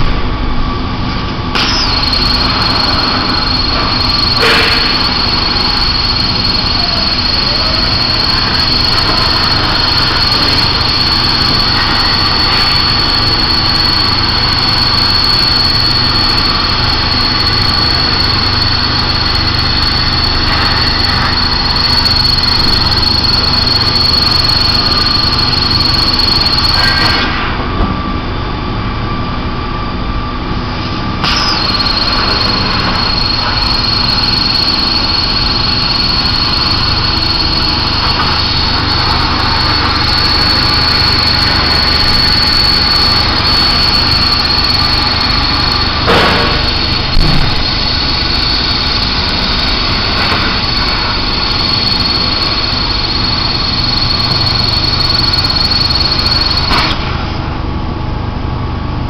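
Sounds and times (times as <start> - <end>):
plasma torch cutting steel: 1.6 - 27.5, 31.2 - 57.2.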